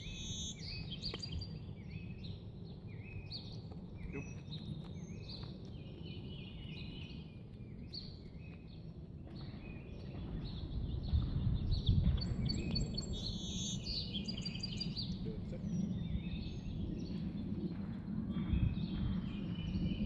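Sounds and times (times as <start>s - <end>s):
low outdoor rumble: 0.0s - 20.0s
songbirds chirping: 0.0s - 20.0s.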